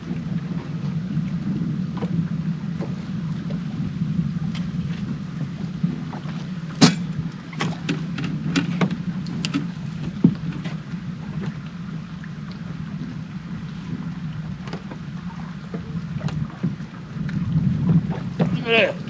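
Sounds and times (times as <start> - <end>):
knocks and clicks on boat: 0.0 - 19.0
wind noise: 0.0 - 19.0.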